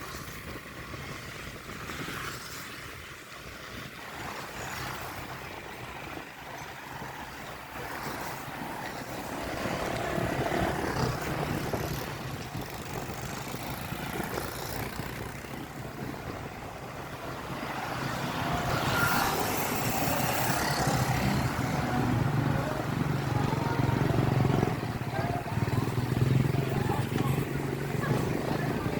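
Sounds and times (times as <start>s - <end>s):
road noise: 0.0s - 28.9s
wind on microphone: 0.0s - 28.9s.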